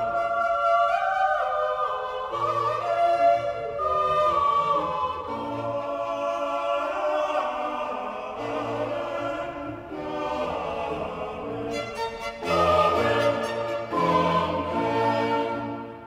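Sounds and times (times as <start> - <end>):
choir singing slow chords: 0.0 - 16.0.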